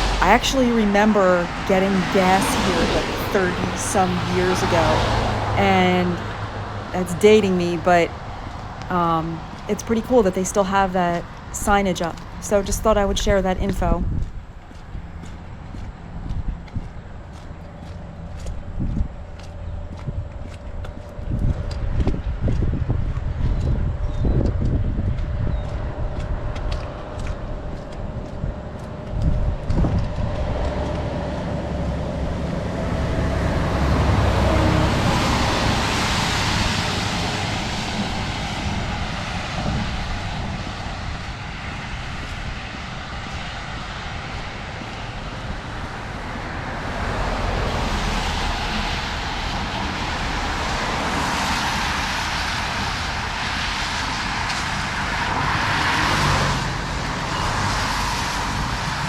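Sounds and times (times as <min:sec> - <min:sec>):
cars passing on wet road: 0:00.0 - 0:24.0, 0:24.6 - 0:59.0
wind rumbling on microphone: 0:00.0 - 0:59.0.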